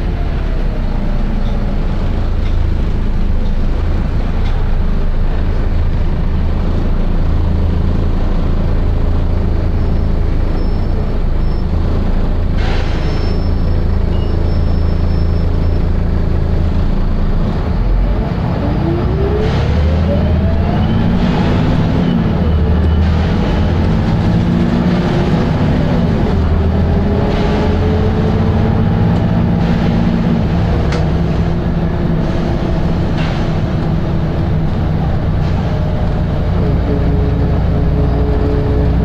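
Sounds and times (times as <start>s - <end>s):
bus diesel engine accelerating: 0.0s - 39.0s.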